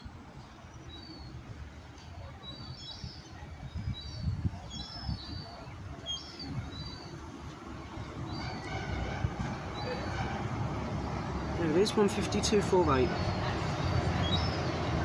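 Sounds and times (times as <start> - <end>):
small birds chirping: 0.4 - 10.3, 11.0 - 15.0.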